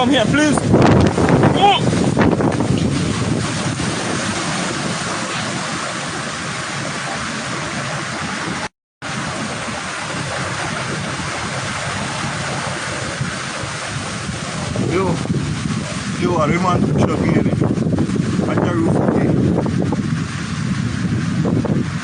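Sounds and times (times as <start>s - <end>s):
wind and rain rushing: 0.0s - 22.0s.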